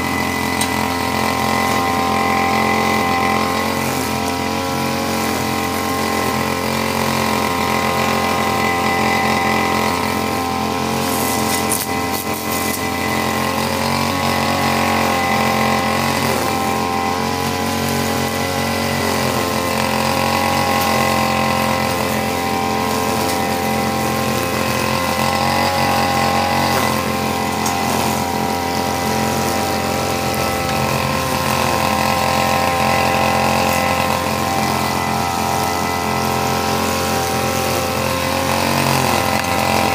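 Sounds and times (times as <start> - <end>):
brush cutter engine mowing grass: 0.0 - 39.9.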